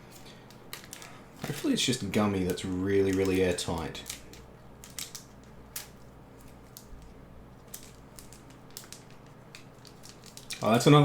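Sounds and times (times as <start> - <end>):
plastic wrapper crackling: 0.1 - 11.0.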